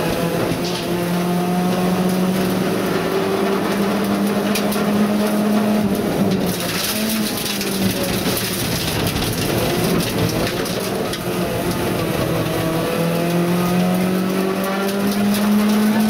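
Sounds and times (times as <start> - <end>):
car engine running hard: 0.0 - 16.0
tyre and road noise: 0.0 - 16.0.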